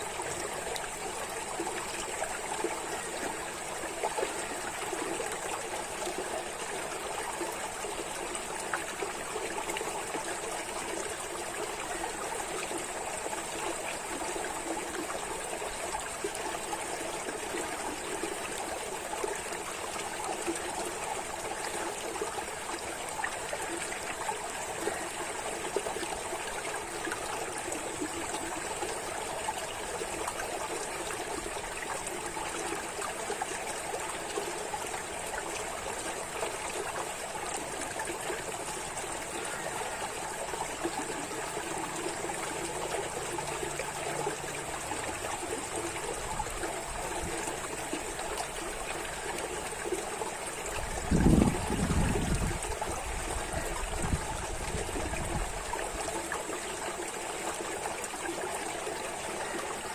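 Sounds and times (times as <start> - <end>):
water trickling over stones: 0.0 - 59.9.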